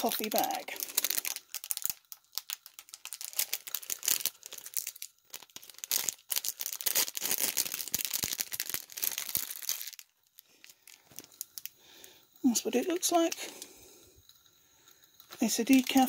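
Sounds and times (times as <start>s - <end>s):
packaging crinkling and tearing: 0.0s - 11.9s, 13.0s - 16.0s.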